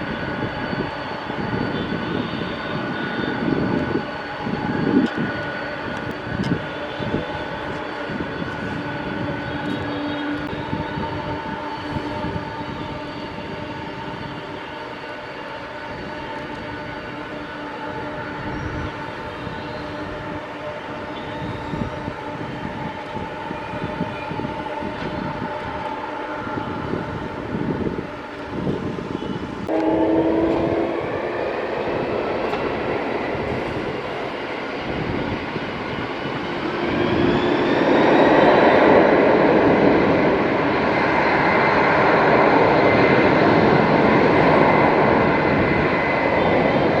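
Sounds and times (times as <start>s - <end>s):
jet engines whining and roaring: 0.0s - 47.0s.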